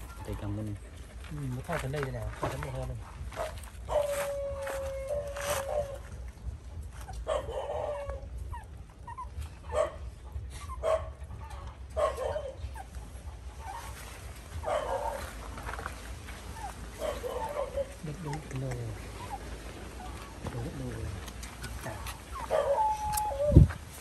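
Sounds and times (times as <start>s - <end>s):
dogs barking and yelping: 0.0s - 1.2s, 3.3s - 24.0s.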